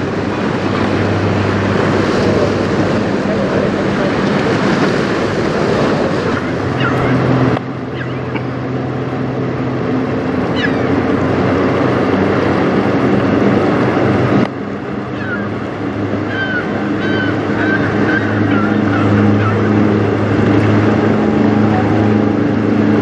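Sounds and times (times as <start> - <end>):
boat engine drone: 0.0 - 23.0
choppy river water rushing: 0.0 - 23.0
wind: 0.0 - 23.0.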